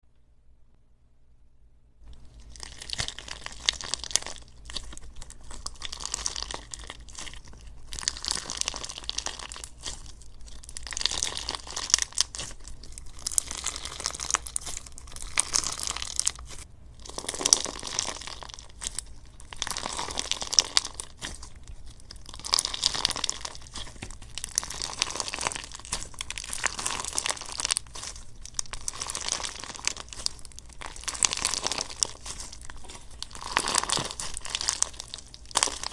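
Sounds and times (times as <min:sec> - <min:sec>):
slime crackling and crunching: 0:02.0 - 0:35.9.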